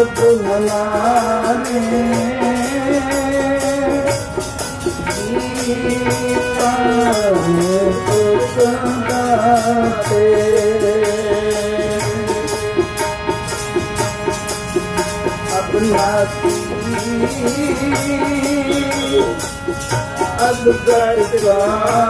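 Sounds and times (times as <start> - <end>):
man singing a hymn: 0.0 - 4.4, 5.0 - 13.0, 15.4 - 19.4, 20.2 - 22.0
harmonium chords: 0.0 - 22.0
tabla beat: 0.0 - 22.0.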